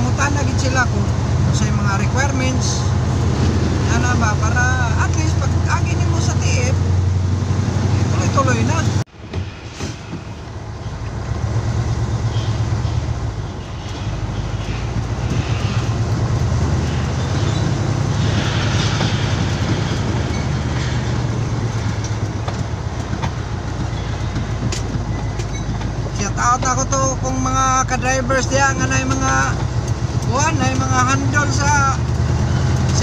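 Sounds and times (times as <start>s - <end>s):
rattle of truck on gravel: 0.0s - 33.0s
truck engine running low: 0.0s - 33.0s.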